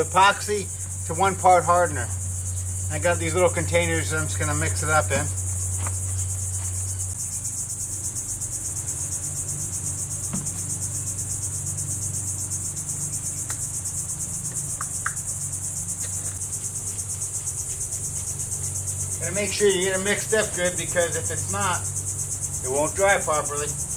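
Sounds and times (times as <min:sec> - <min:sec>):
insects chirring: 0:00.0 - 0:23.9.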